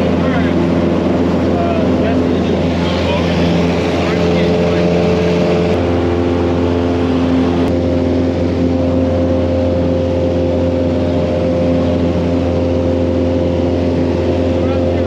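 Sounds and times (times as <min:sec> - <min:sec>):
light aircraft engine humming: 0:00.0 - 0:15.0.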